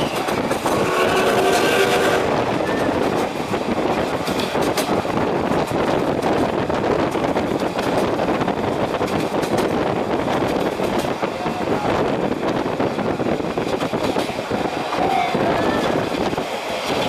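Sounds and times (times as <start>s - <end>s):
train wheels rumbling on rails: 0.0s - 17.0s
wind rushing in window: 0.0s - 17.0s.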